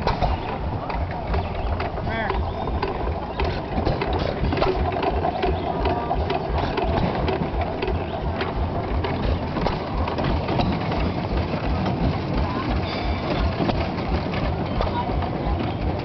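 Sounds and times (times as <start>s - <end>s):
gears clattering: 0.0s - 16.0s
machinery engine pulsing: 0.0s - 16.0s.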